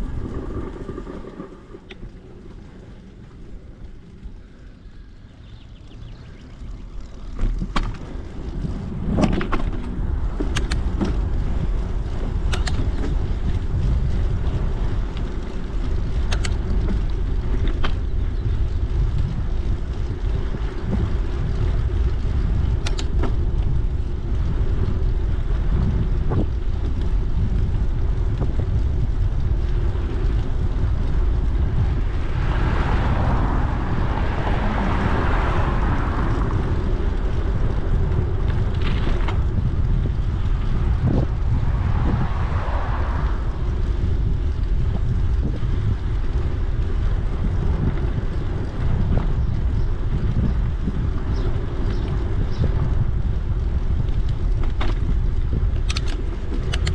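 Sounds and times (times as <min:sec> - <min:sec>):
bicycle tyre rumble: 0:00.0 - 0:56.9
wind buffeting microphone: 0:00.0 - 0:56.9
bike rattling clicks: 0:00.3 - 0:32.4, 0:34.1 - 0:56.9.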